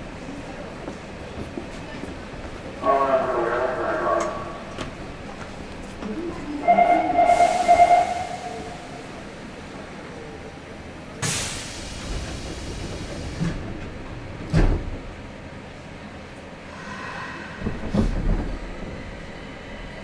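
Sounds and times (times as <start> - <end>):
subway train rumble and hiss: 0.0 - 20.0.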